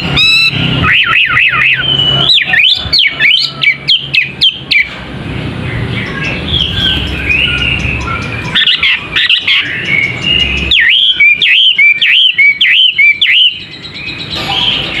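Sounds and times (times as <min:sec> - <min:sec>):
songbird whistling: 0:00.0 - 0:04.9, 0:06.0 - 0:15.0.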